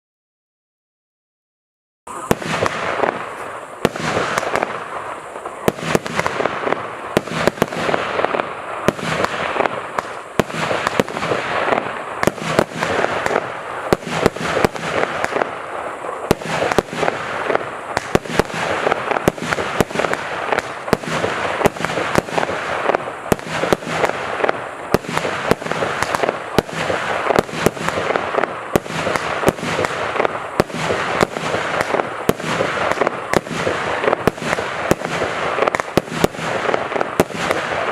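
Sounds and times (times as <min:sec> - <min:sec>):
firework bangs: 0:02.1 - 0:37.9
firework crackling hiss: 0:02.1 - 0:37.9.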